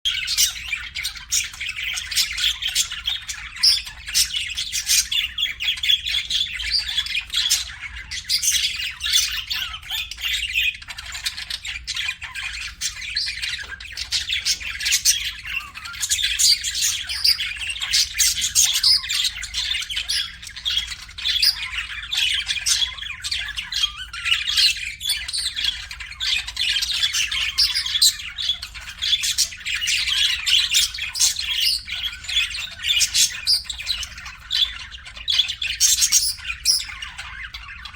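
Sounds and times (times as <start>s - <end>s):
budgerigars chattering: 0.1s - 37.9s.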